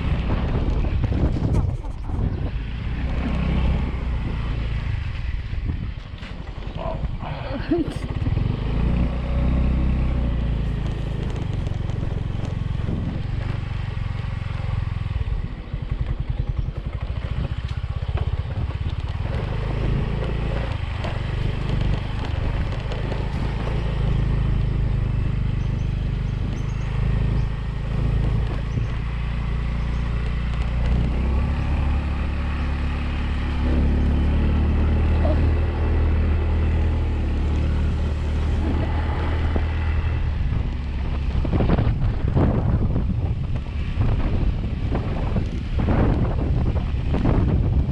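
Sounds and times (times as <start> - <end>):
motorbike engine running: 0.0 - 47.9.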